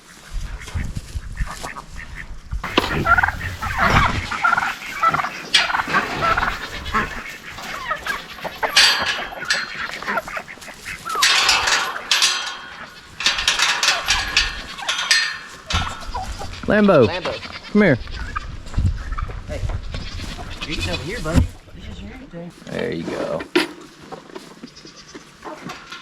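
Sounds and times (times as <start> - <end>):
poultry calling: 1.4 - 22.6, 23.6 - 26.0.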